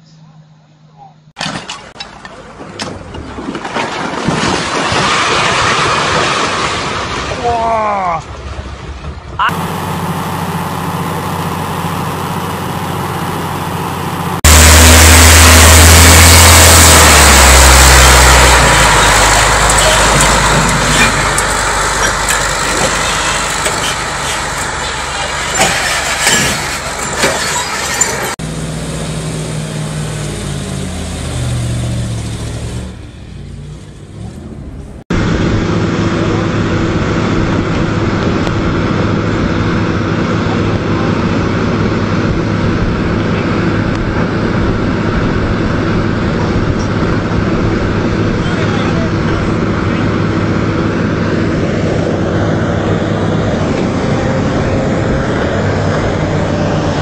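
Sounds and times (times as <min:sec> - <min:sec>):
excavator engines droning: 0:07.1 - 0:57.0
truck diesel engine: 0:08.2 - 0:57.0.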